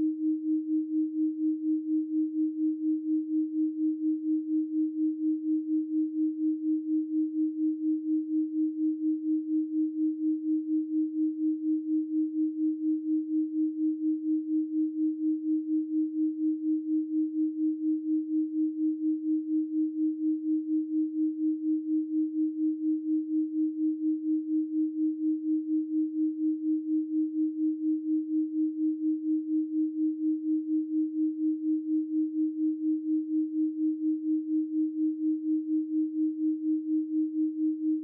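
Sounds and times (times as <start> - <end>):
pulsing sine tone: 0.0 - 38.0.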